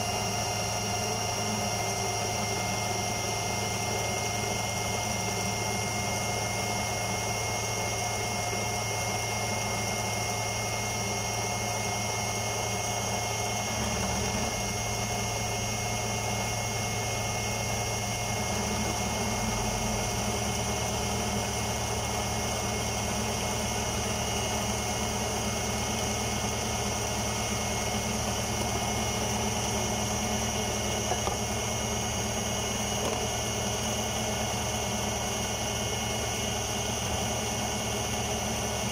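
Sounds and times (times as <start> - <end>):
food processor motor running: 0.0 - 38.9.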